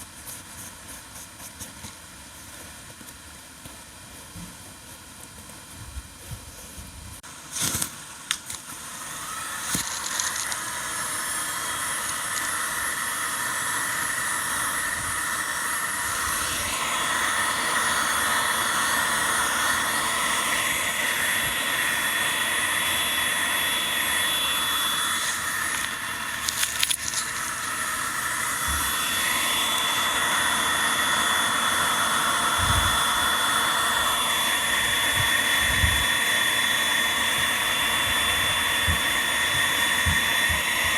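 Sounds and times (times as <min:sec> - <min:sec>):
electric blower motor whining: 0:07.4 - 0:40.9.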